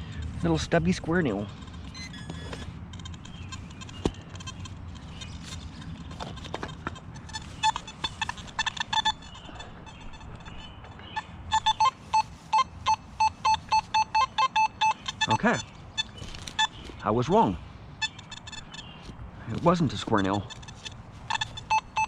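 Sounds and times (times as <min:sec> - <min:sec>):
metal detector beeping: 0:00.4 - 0:22.0.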